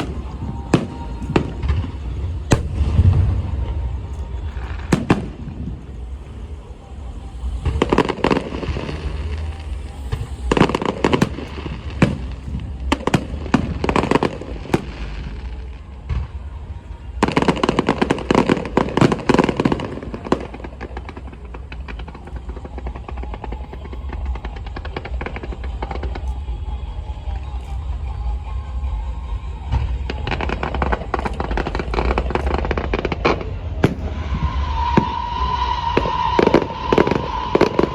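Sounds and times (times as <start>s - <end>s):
fireworks bangs and crackles: 0.0s - 37.9s
low rumble: 0.0s - 37.9s.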